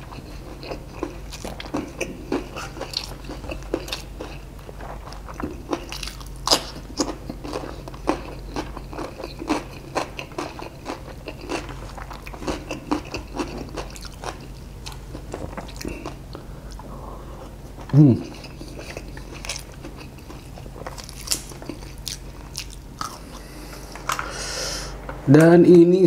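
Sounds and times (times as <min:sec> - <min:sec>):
crunching and wet chewing: 0:00.0 - 0:24.2.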